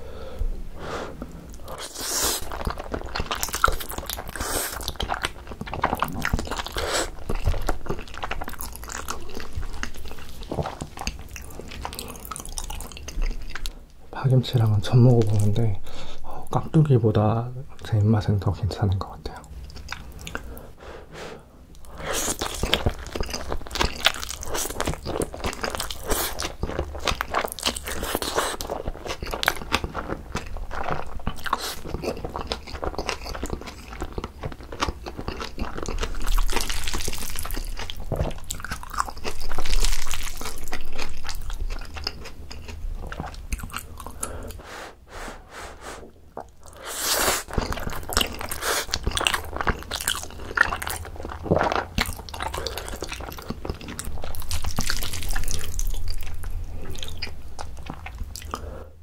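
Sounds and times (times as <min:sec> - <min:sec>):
wet chewing and lip smacks: 0:01.5 - 0:14.0, 0:19.6 - 0:20.6, 0:21.7 - 0:44.6, 0:46.3 - 0:58.7.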